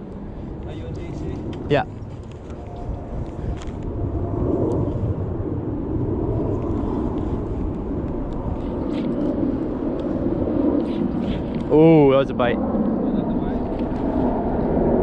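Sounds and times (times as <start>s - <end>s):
passing traffic engine drone: 0.0s - 15.0s.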